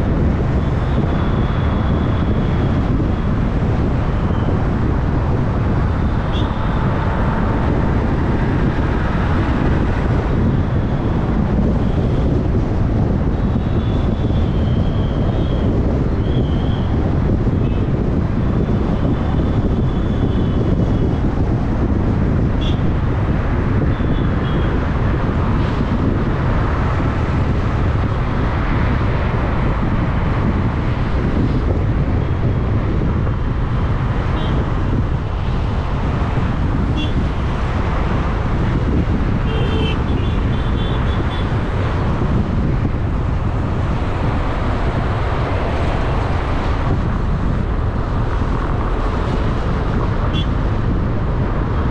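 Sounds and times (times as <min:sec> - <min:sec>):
car road noise: 0:00.0 - 0:51.9
wind noise on microphone: 0:00.0 - 0:51.9.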